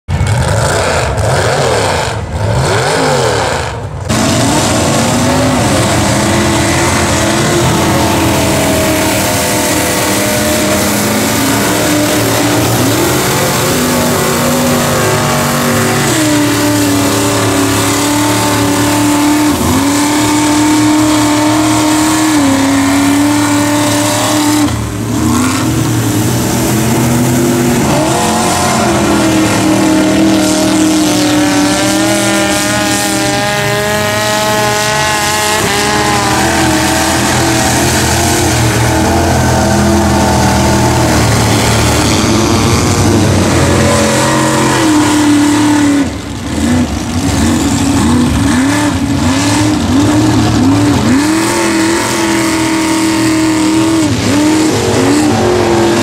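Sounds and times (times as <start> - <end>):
truck engine revving in mud: 0.0 - 56.0.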